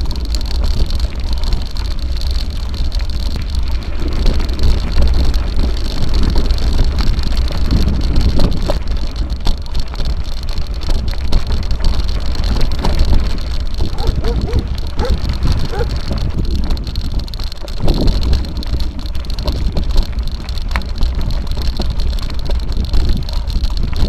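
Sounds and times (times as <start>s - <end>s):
bike rattles and knocks: 0.0s - 24.0s
bike tyres on gravel: 0.0s - 24.0s
wind rumble on microphone: 0.0s - 24.0s.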